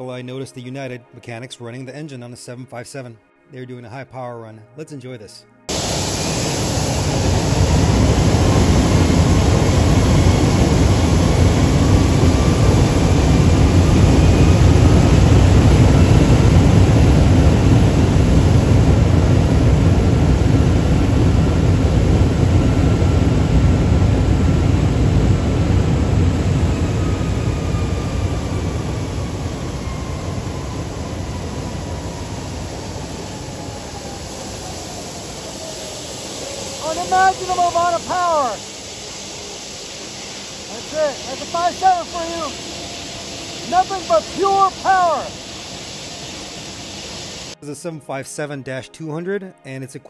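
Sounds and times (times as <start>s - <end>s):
jet engine roar with whine: 5.7s - 47.6s.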